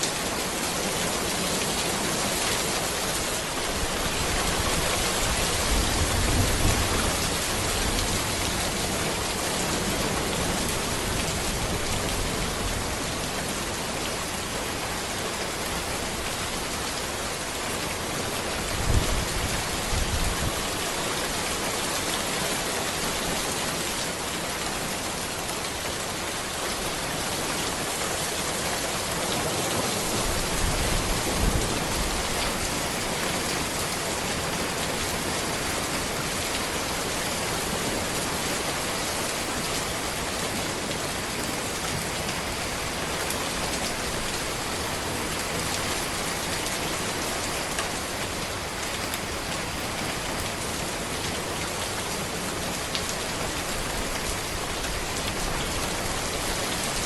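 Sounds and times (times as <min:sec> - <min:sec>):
rain falling on a road: 0:00.0 - 0:57.0.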